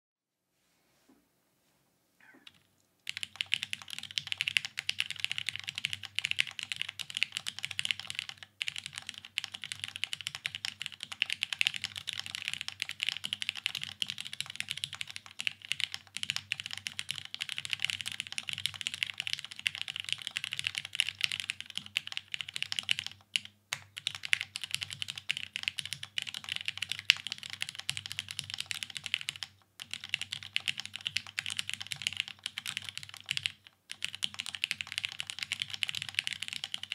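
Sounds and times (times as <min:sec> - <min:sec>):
mechanical keyboard typing: 0:02.5 - 0:36.9.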